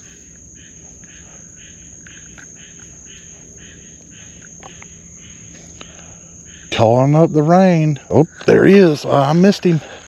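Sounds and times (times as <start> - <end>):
frog calling: 0.0 - 10.0
high-pitched insect trill: 0.0 - 10.0.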